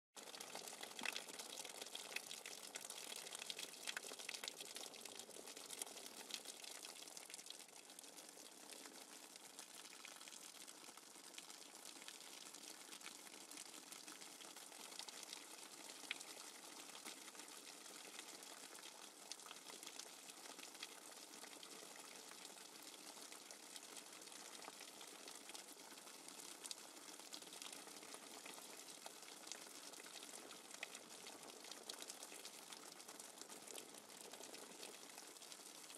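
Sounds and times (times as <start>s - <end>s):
rain falling on puddles: 0.2s - 35.9s.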